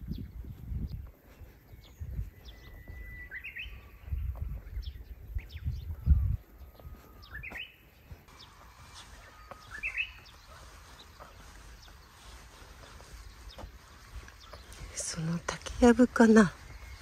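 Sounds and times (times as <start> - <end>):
bush warbler singing: 0.0 - 17.0.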